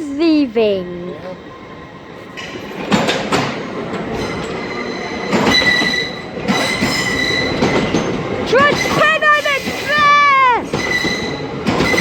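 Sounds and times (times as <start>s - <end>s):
train wheels clattering over rail joints: 2.4s - 12.0s.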